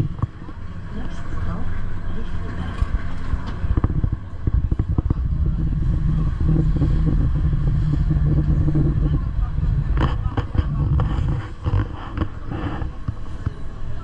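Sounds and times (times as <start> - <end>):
low motor hum: 0.0 - 14.0
train rumbling: 0.0 - 14.0.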